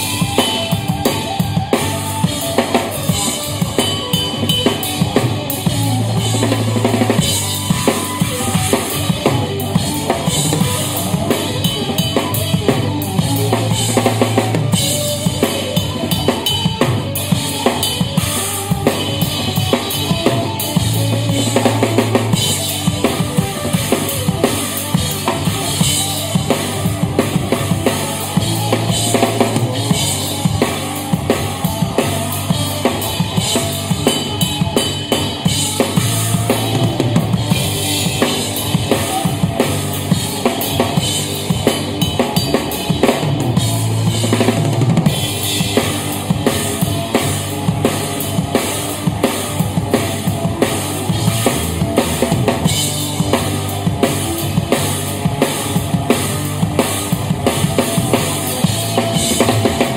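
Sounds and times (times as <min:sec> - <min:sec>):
drum kit played fast: 0:00.0 - 0:59.9
jazz-rock band playing: 0:00.0 - 0:59.9
low bass notes: 0:05.1 - 0:16.1, 0:18.2 - 0:59.9.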